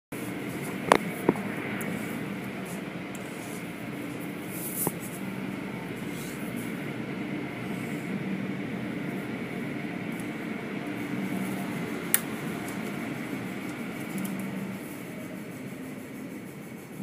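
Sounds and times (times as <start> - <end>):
car wash machinery hum and hiss: 0.1 - 17.0.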